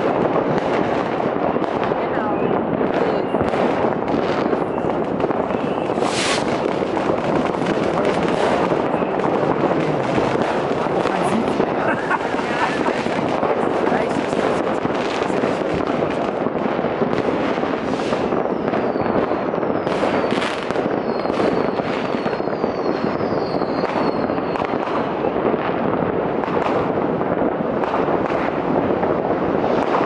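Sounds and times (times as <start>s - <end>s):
distant fireworks crackling: 0.0s - 30.0s
whistling fireworks: 0.0s - 30.0s.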